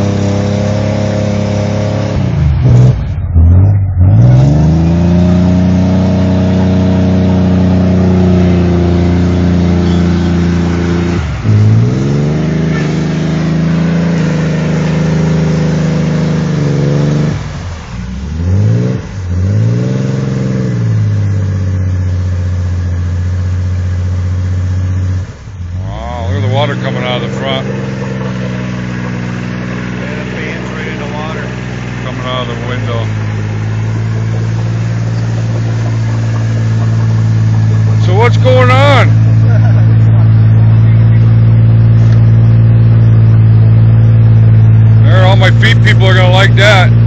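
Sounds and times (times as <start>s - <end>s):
truck engine revving hard: 0.0s - 47.0s.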